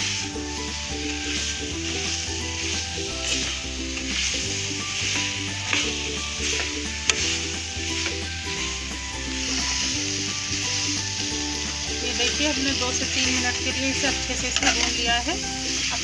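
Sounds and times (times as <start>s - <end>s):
mango frying and sizzling in oil: 0.0s - 16.0s
metal spatula stirring: 0.0s - 16.0s.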